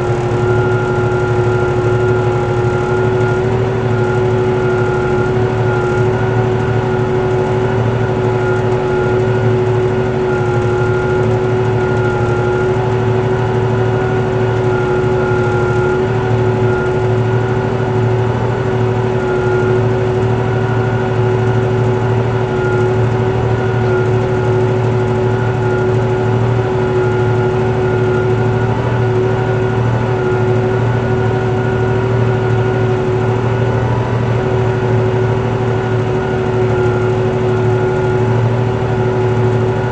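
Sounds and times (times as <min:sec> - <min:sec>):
constant whine: 0:00.0 - 0:39.9
tractor engine running under load: 0:00.0 - 0:39.9.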